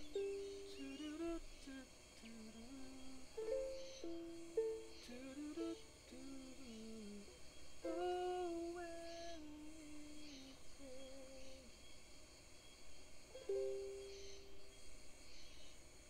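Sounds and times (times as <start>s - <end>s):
person humming a melody: 0.0s - 11.8s, 13.4s - 14.6s.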